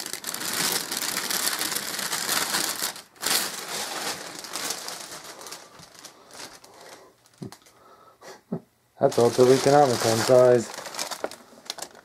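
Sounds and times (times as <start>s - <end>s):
plastic bag crinkling and rustling: 0.0s - 7.8s, 9.0s - 12.0s.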